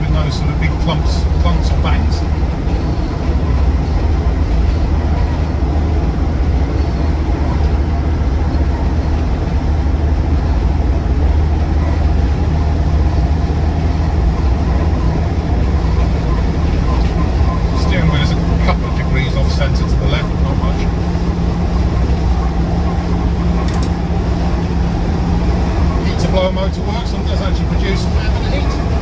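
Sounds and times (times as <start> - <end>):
diesel engine droning: 0.0 - 29.0
road and tyre noise: 0.0 - 29.0.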